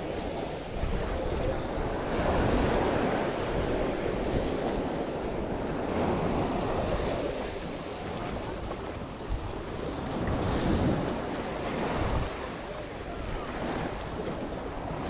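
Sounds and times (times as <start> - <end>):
sea surf washing onto beach: 0.0 - 15.0
wind on microphone: 0.0 - 15.0.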